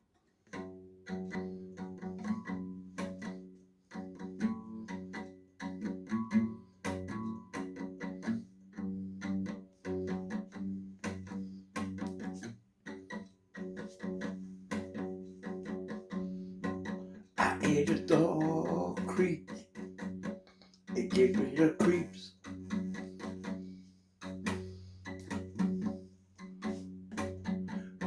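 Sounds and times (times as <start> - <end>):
plucked string notes: 0.5 - 28.0.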